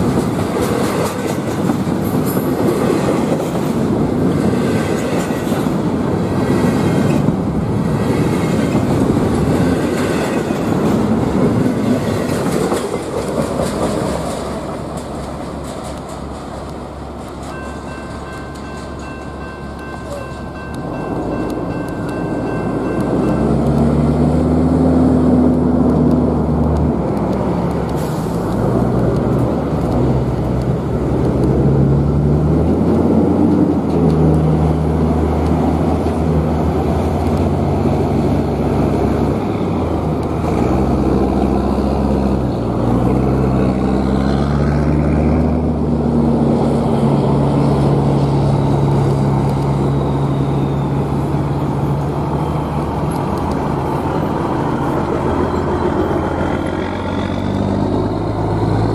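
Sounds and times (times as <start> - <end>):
freight train rumbling on track: 0.0 - 58.9.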